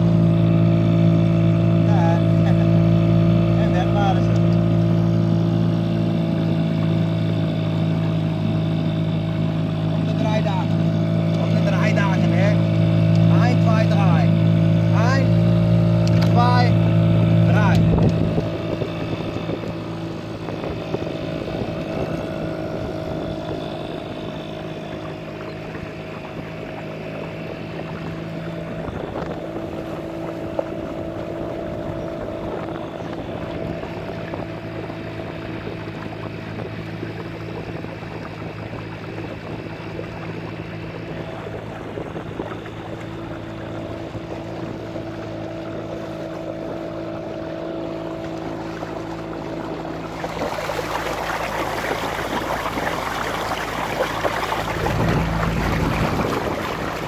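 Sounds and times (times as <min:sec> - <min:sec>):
outboard motor running: 0:00.0 - 0:57.0
water rushing along hull: 0:00.0 - 0:57.0.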